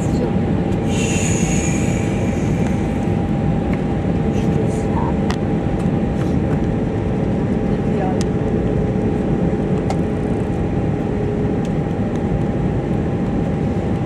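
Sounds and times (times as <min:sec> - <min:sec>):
airliner cabin engine rush: 0:00.0 - 0:14.0
faint steady hums: 0:00.0 - 0:14.0.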